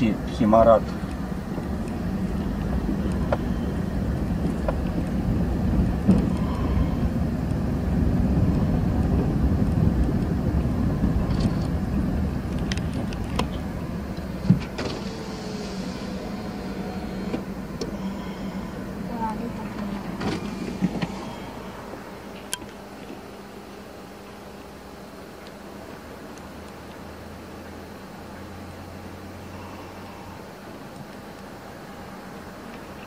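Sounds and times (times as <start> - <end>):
car rumbling on dirt road: 0.0 - 33.0.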